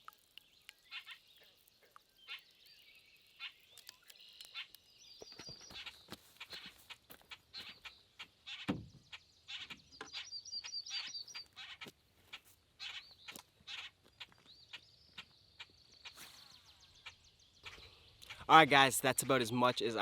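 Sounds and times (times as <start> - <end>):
birds chirping: 0.0 - 20.0
bird trill: 2.2 - 20.0.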